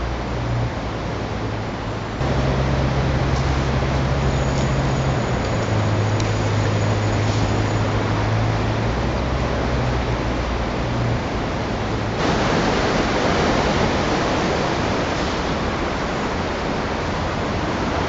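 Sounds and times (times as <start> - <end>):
dense rushing noise: 0.0 - 18.0
low steady hum: 0.0 - 18.0.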